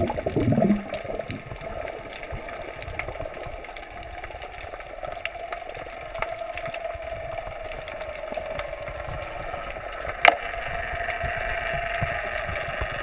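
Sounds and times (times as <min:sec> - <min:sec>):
faint clicks: 0:00.0 - 0:13.0
muffled underwater hum: 0:00.0 - 0:13.0.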